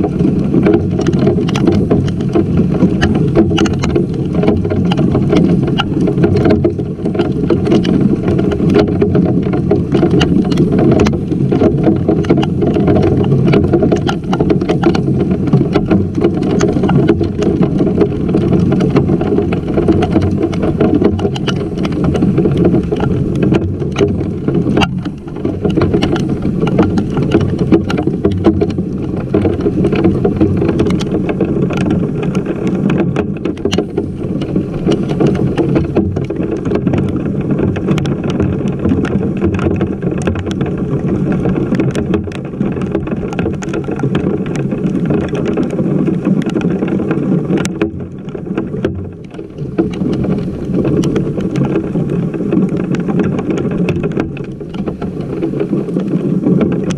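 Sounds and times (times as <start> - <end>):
heavy rain and hail: 0.0 - 48.7, 49.3 - 56.9.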